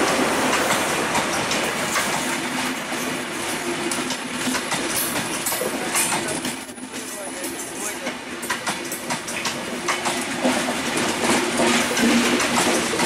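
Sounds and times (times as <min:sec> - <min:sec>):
train wheels rushing on rails: 0:00.0 - 0:13.0
wheels clattering over rail joints: 0:00.0 - 0:13.0.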